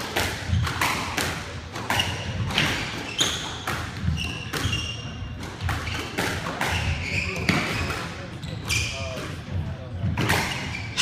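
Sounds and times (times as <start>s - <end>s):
squash ball hits: 0.0s - 8.2s, 10.0s - 10.7s
sneakers squeaking on wooden floor: 0.5s - 1.2s, 1.8s - 11.0s.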